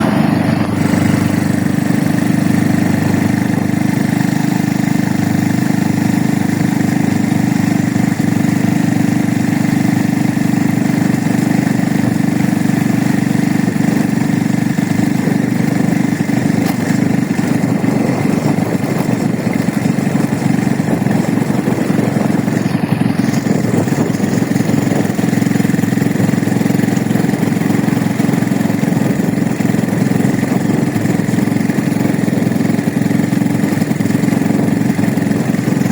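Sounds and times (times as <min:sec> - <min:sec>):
road noise: 0:00.0 - 0:35.9
vehicle engine running: 0:00.0 - 0:35.9.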